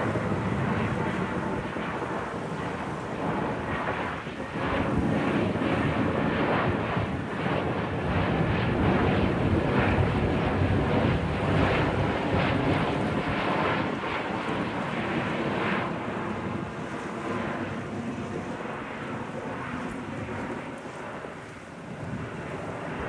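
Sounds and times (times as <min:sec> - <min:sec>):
wind buffeting microphone: 0:00.0 - 0:18.8, 0:19.4 - 0:23.0
jet engine rumble: 0:00.0 - 0:23.0.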